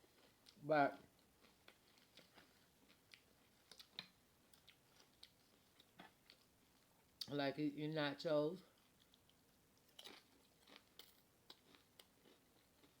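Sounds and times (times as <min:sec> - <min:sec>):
chewing crunchy chips: 0:00.0 - 0:06.9, 0:08.7 - 0:13.0.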